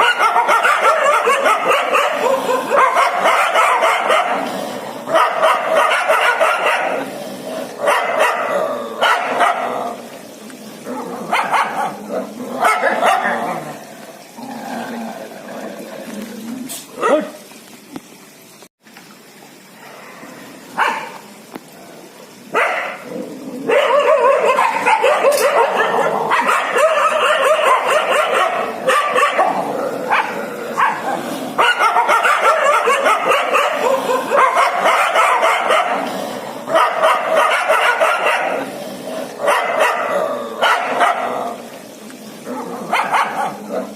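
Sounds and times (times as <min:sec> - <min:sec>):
dogs barking and yelping: 0:00.0 - 0:14.3, 0:20.8 - 0:21.2, 0:22.5 - 0:41.8, 0:42.4 - 0:43.9.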